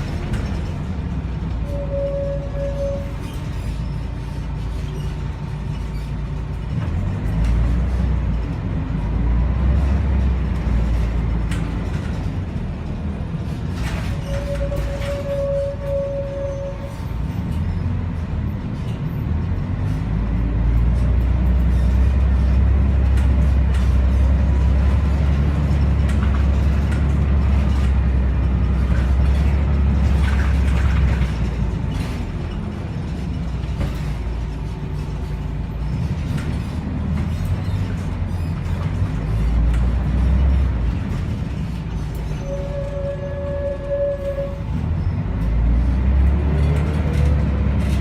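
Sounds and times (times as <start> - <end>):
bus engine droning under load: 0.0 - 48.0
rattles and clicks: 2.8 - 48.0.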